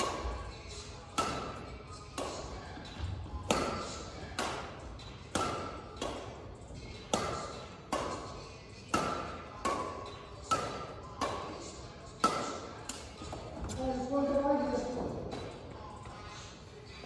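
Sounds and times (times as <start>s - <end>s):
badminton rackets hitting shuttlecock: 0.0s - 13.8s.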